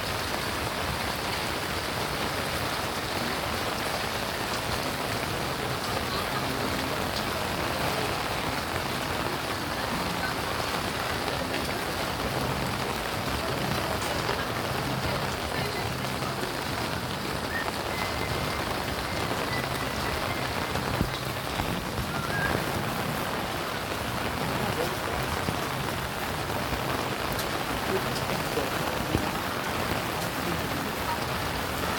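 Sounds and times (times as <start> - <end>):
steady rain falling: 0.0 - 31.9.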